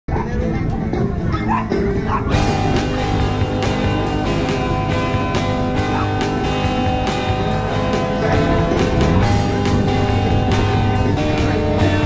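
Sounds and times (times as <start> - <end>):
background music: 0.1 - 12.0.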